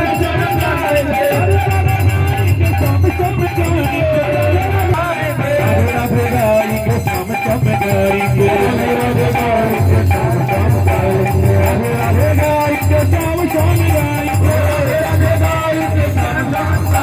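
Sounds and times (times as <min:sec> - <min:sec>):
jingling percussion: 0:00.0 - 0:17.0
person singing a melody: 0:00.0 - 0:17.0
rhythmic drum beat: 0:00.0 - 0:17.0.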